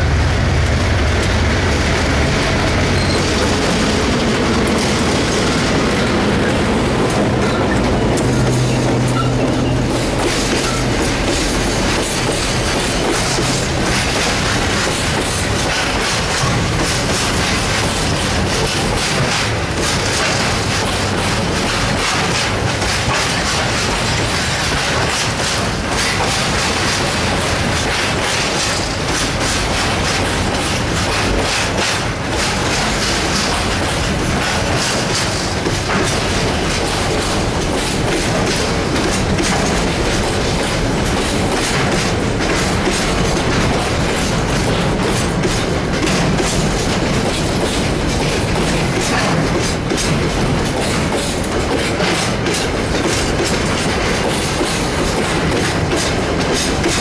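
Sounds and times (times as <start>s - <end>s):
wheels clacking over rail joints: 0.0s - 57.0s.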